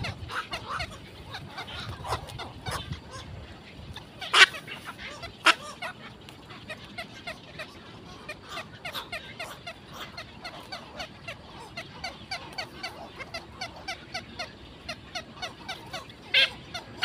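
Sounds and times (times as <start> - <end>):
birds short repeated calls: 0.0 - 17.0
loud harsh bird calls: 0.0 - 17.0.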